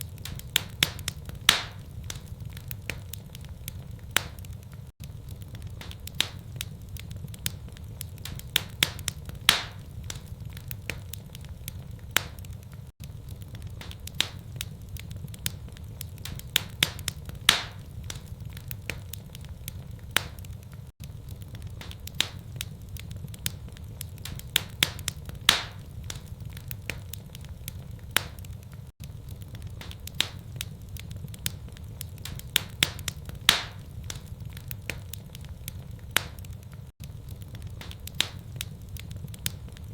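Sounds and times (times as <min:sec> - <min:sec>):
sharp pops of fire: 0:00.0 - 0:39.9
wood fire crackling: 0:00.0 - 0:39.9.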